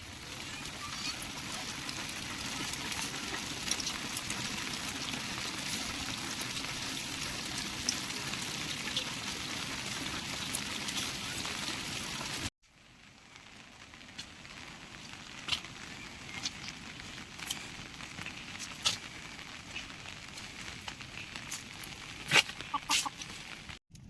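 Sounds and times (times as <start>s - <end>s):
rain pattering on surfaces: 0.0s - 23.8s.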